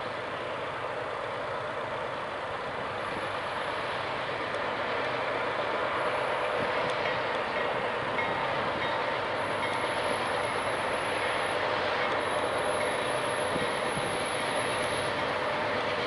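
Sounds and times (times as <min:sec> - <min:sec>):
diesel locomotives droning: 0:00.0 - 0:16.0.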